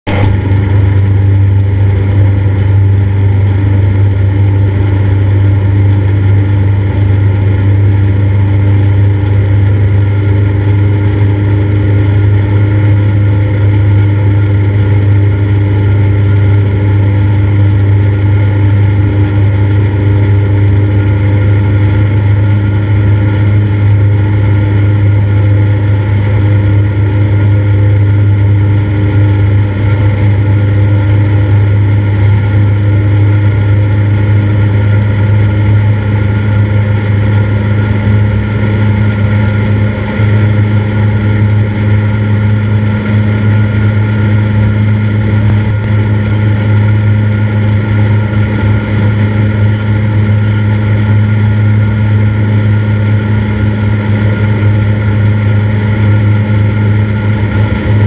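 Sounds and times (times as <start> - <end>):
airplane engine and propeller drone: 0.0 - 58.0.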